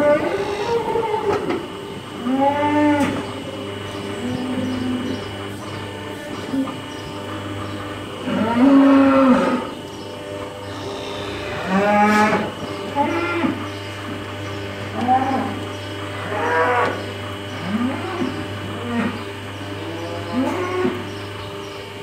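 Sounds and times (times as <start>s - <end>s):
cattle mooing: 0.0s - 9.9s, 10.6s - 21.1s
steady low hum: 0.0s - 22.0s.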